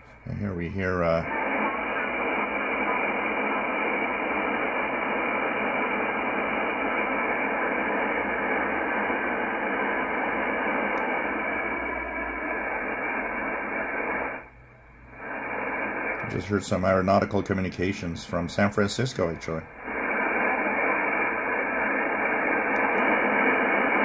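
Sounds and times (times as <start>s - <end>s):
shortwave radio static hiss: 0.0s - 24.0s.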